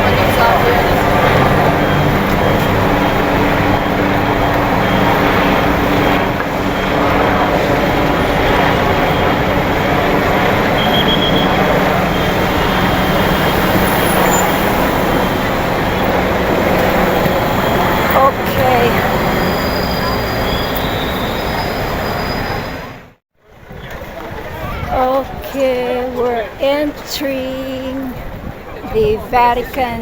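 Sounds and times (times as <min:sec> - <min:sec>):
vehicle engines running: 0:00.0 - 0:29.8
road noise roar: 0:00.0 - 0:30.0.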